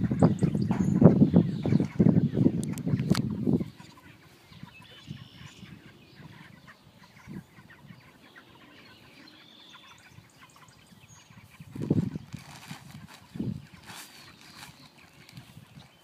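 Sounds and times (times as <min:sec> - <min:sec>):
chickens clucking and cheeping: 0:00.0 - 0:16.0.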